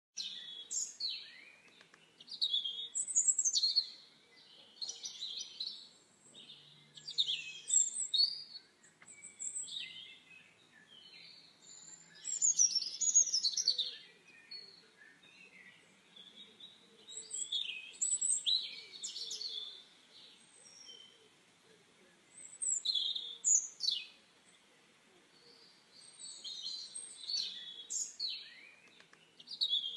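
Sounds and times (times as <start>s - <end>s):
small birds chirping and trilling: 0.2s - 29.9s.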